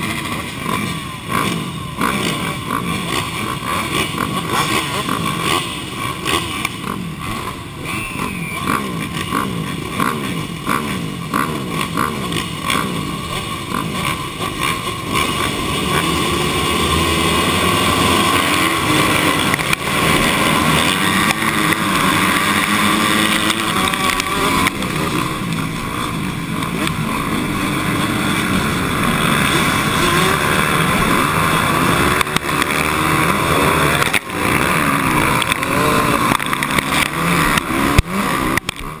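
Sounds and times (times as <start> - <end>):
motocross bike engine at full throttle: 0.0 - 39.0
motocross bikes racing: 0.0 - 39.0.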